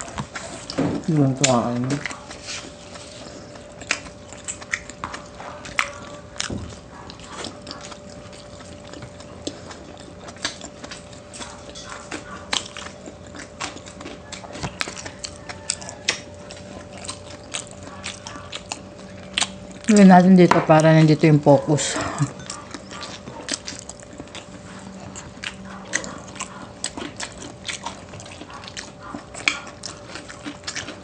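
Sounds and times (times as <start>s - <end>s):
chewing and wet smacks: 0.0s - 31.0s
faint steady hum: 0.0s - 31.0s.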